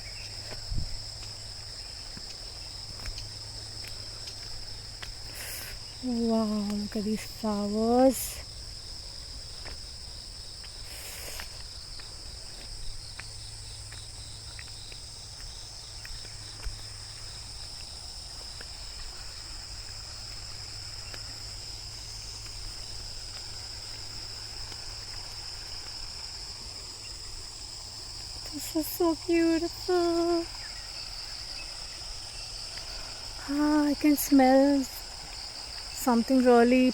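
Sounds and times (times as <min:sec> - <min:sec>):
insects chirping chorus: 0:00.0 - 0:36.9.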